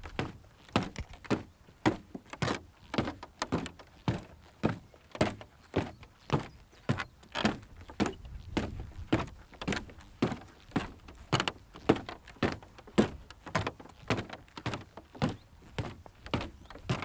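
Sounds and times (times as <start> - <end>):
footsteps on wooden pathway: 0.0 - 17.0.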